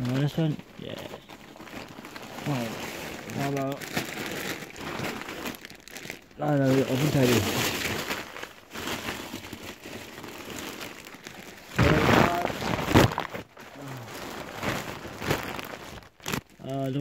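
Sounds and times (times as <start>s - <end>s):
wrapping paper rustling: 0.0s - 17.0s.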